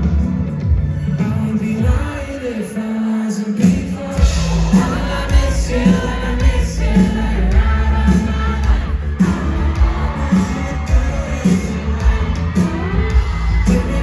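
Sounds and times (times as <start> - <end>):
pop-rock band playing: 0.0 - 2.5, 3.6 - 14.0
person singing: 0.0 - 14.0.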